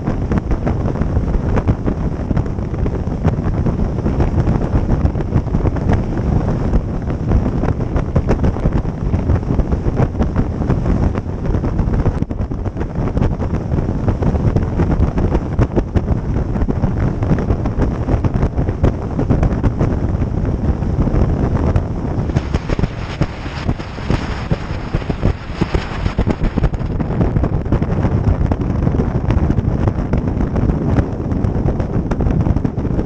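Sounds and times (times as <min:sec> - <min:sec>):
boat moving through water: 0:00.0 - 0:33.0
wind buffeting microphone: 0:00.0 - 0:33.0.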